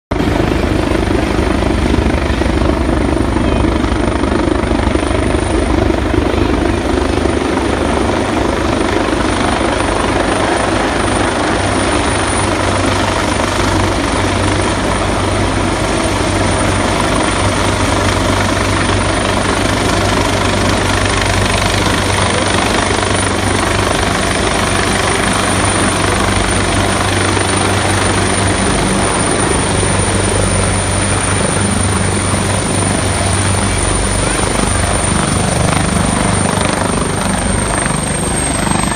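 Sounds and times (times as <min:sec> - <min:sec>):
helicopter rotor and engine: 0:00.1 - 0:38.9.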